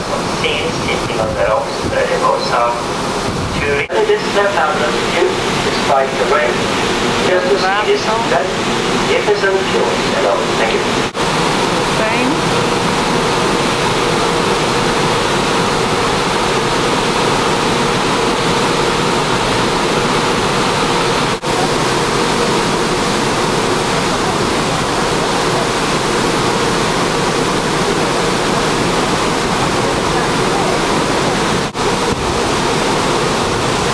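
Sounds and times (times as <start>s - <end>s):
water rushing: 0.0s - 33.9s
wind: 0.0s - 33.9s.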